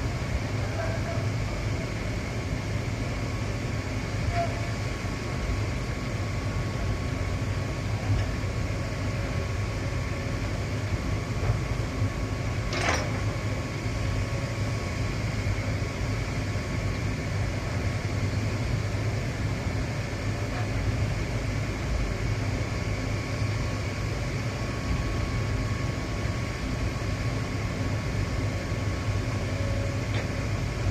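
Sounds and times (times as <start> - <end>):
heavy machinery engine rumble: 0.0 - 30.9.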